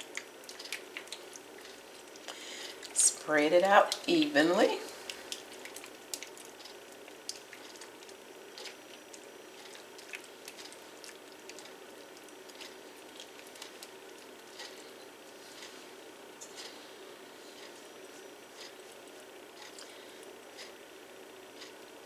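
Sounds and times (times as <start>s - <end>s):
soft squishing of creamy mixture: 0.0s - 3.0s, 4.9s - 22.0s.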